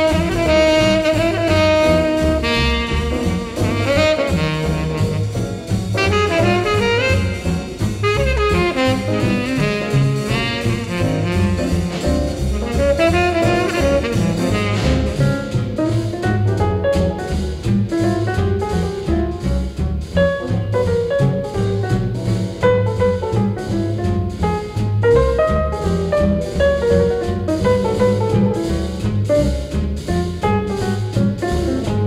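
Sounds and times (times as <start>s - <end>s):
bass line: 0.0s - 32.0s
jazz horn melody: 0.0s - 32.0s.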